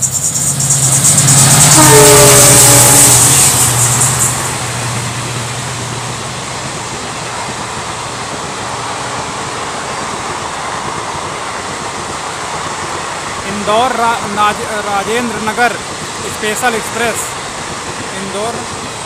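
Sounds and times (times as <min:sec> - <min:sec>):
passing locomotive: 0:00.0 - 0:19.0
train wheels rumbling on rail: 0:00.0 - 0:19.0.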